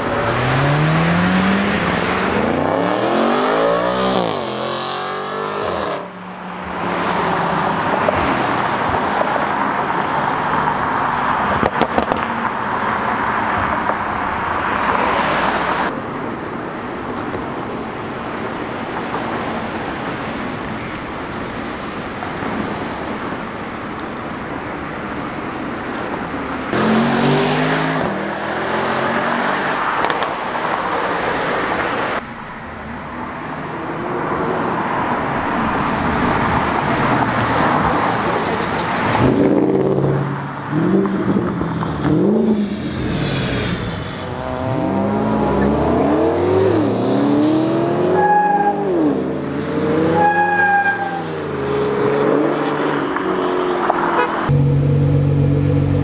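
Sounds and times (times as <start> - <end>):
cars driving past: 0.0 - 16.4, 17.1 - 56.0
car engines revving: 0.0 - 56.0.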